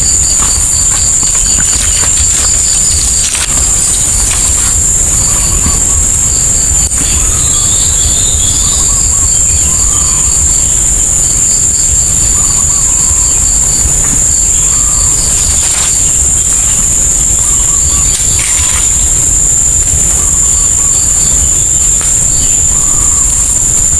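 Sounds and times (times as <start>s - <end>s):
heavy rain: 0.0s - 23.9s
high-pitched insect drone: 0.0s - 23.9s
quick evenly spaced chirps: 0.0s - 23.9s.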